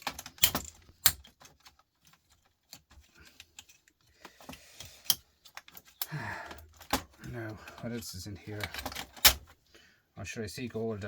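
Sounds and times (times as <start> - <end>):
clicks of small parts and tools: 0.0 - 9.5.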